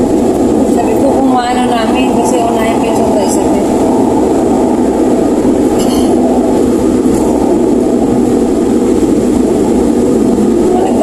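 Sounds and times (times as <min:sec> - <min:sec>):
car engine drone: 0:00.0 - 0:11.0.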